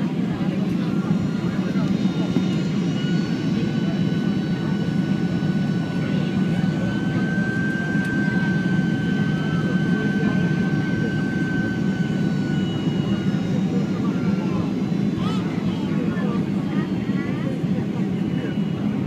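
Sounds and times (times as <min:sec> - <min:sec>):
airliner cabin rumble: 0:00.0 - 0:19.0
high engine whine: 0:00.0 - 0:19.0.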